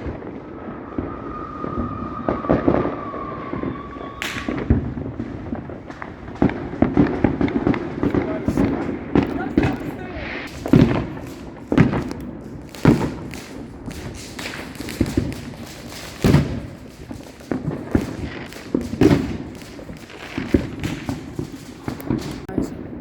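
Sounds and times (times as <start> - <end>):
fireworks booming thumps: 0.0 - 23.0.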